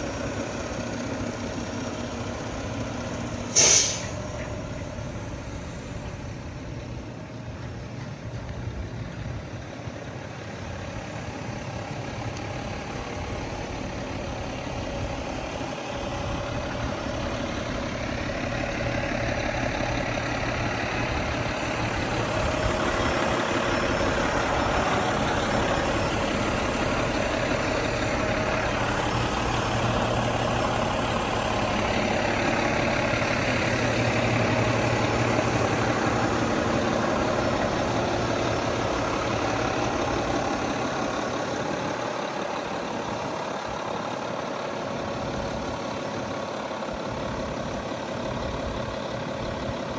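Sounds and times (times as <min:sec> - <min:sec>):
garbage truck diesel engine running: 0:00.0 - 0:49.9.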